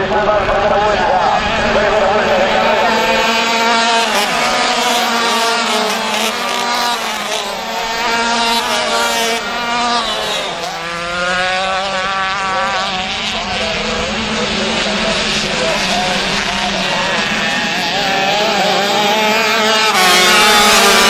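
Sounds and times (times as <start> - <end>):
racing kart engines passing: 0.0 - 21.0.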